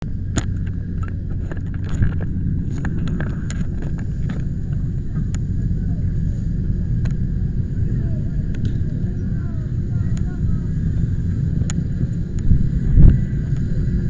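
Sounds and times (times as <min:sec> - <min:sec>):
low rumble: 0:00.0 - 0:14.0
wind on microphone: 0:00.0 - 0:14.0.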